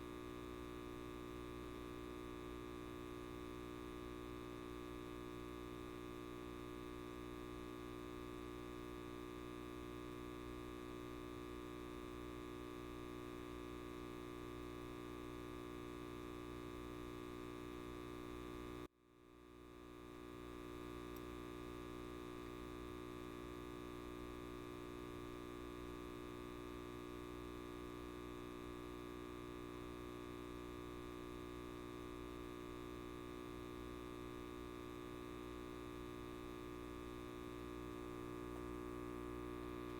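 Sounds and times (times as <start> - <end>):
light bulb electrical buzz: 0.0 - 39.9.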